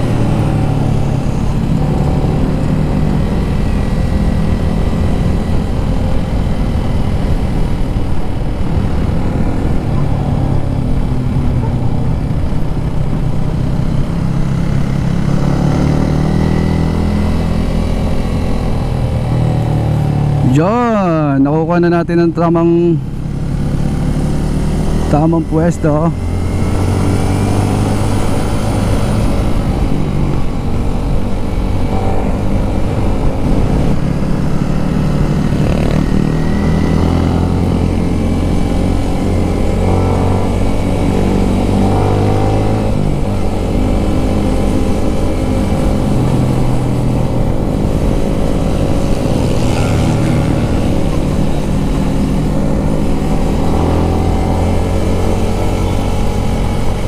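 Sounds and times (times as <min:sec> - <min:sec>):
motorbike engine revving: 0:00.0 - 0:21.0, 0:22.4 - 0:57.0.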